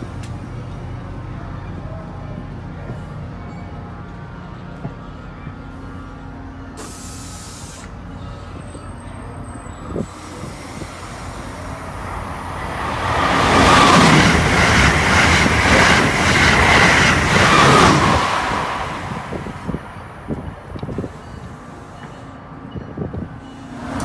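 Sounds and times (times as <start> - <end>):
high-speed train passing: 0.0 - 24.0.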